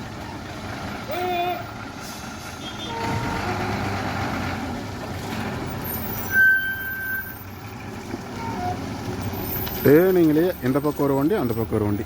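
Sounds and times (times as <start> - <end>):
heavy truck engine rumbling: 0.0 - 12.0.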